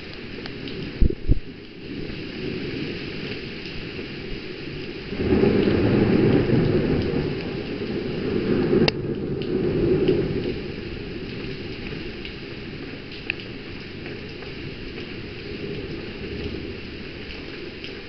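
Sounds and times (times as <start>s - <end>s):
heavy rain hissing: 0.0s - 18.0s
thunder rumbling: 0.0s - 18.0s.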